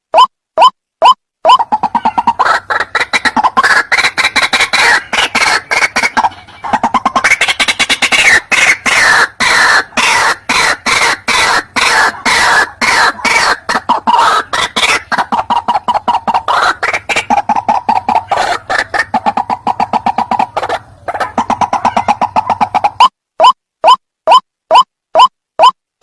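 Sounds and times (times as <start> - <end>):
bird harsh croaking calls: 1.5 - 23.5.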